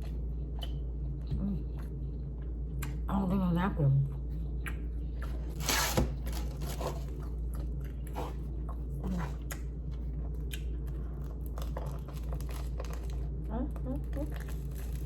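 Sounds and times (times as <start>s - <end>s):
person chewing food: 0.0s - 3.1s, 4.1s - 5.9s, 6.5s - 15.0s
low hum: 0.0s - 15.0s.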